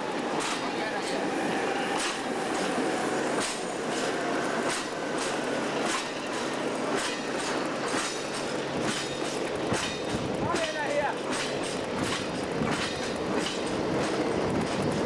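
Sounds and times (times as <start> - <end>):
wheel clacks over rail joints: 0.1 - 1.2, 2.0 - 15.0
freight wagons rolling rumble: 2.3 - 15.0.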